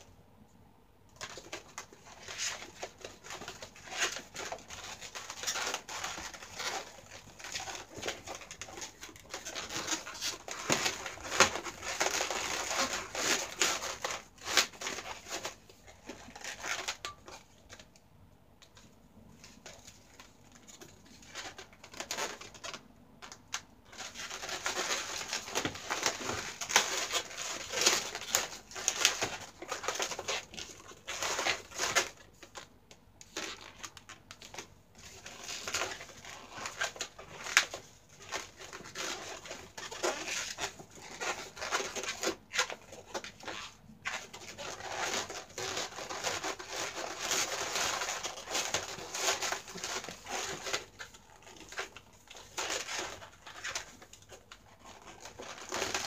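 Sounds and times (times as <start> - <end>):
balloons squeaking and rubbing: 1.5 - 17.4, 23.9 - 32.7, 33.3 - 56.0.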